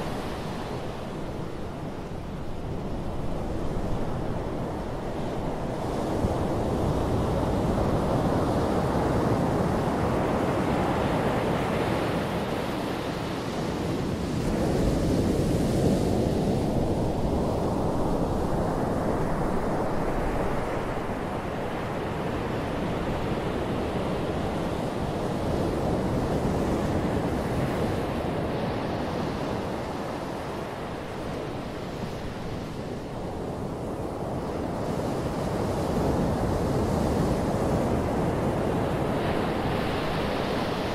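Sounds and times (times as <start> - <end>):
surf washing up beach: 0.0 - 40.9.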